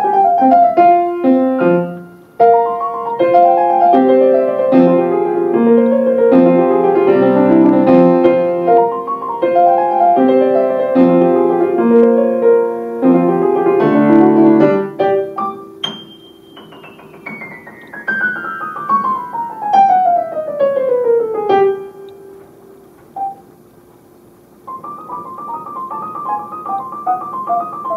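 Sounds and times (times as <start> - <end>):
piano chords and runs: 0.0 - 27.9.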